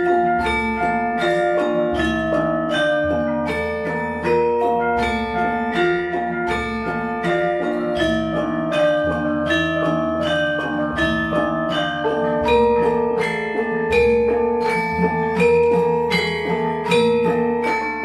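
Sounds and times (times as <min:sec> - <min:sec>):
metallophone keys struck: 0:00.0 - 0:18.0.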